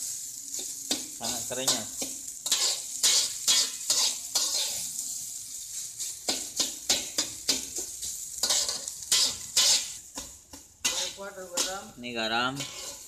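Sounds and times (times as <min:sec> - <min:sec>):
rice sizzling in a wok: 0:00.0 - 0:13.0
spatula scraping a metal wok: 0:00.0 - 0:13.0.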